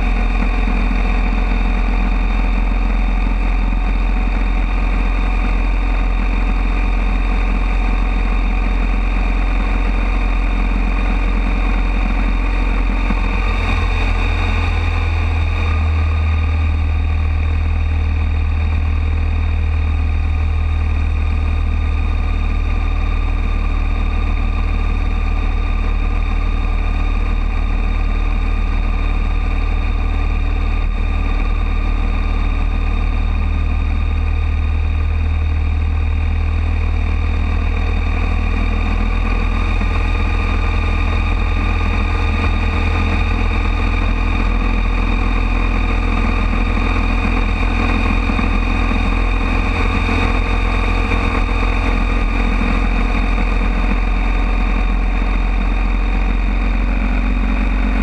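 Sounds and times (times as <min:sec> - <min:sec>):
motorcycle engine running: 0:00.0 - 0:58.0
road noise: 0:00.0 - 0:58.0.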